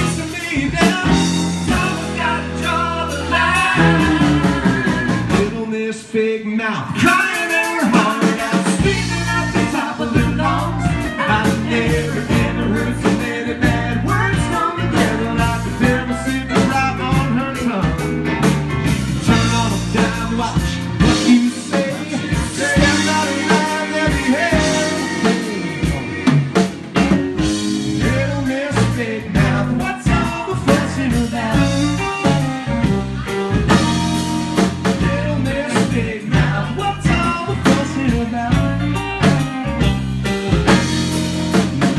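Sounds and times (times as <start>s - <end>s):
drum kit beat: 0.0s - 5.7s, 7.0s - 41.9s
country band playing: 0.0s - 41.9s.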